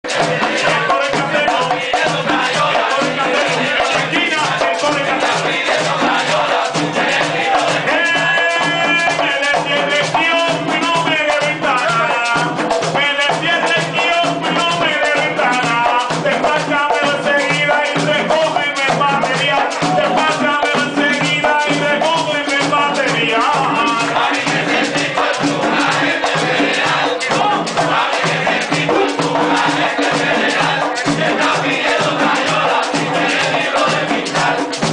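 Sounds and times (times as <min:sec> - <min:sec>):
hand frame drums beating: 0:00.0 - 0:34.9
man singing: 0:00.1 - 0:25.4, 0:27.2 - 0:30.0.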